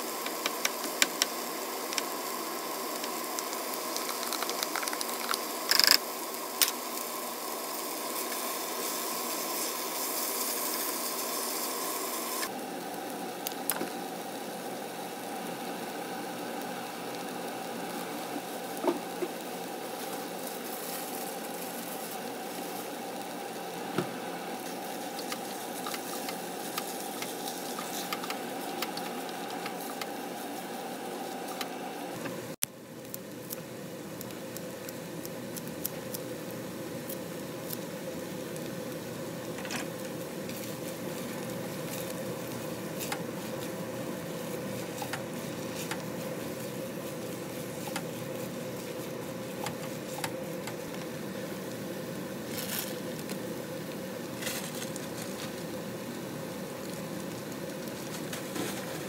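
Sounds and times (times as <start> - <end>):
rice sizzling in a pot: 0.0 - 59.0
steady hum: 0.0 - 59.0.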